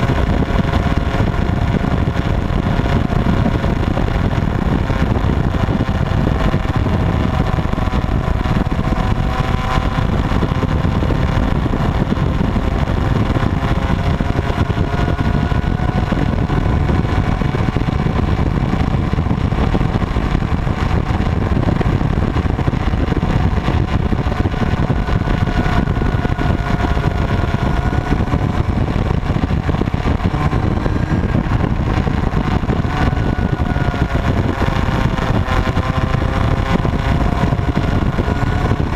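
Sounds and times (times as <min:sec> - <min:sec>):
motorcycle engines running: 0:00.0 - 0:38.9.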